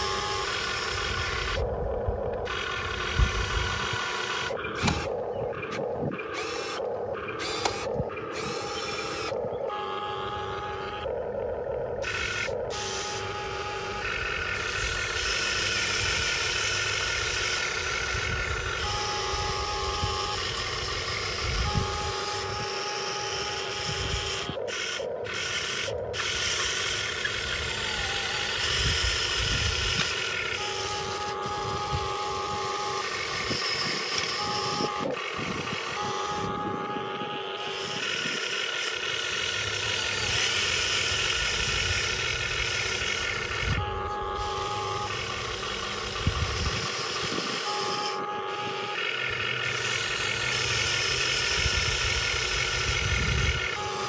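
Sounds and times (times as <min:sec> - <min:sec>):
electric motors whining: 0:00.0 - 0:54.0.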